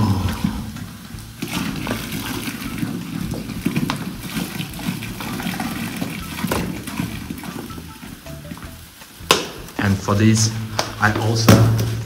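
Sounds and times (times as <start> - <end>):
cola gushing and splashing: 0.0 - 12.0.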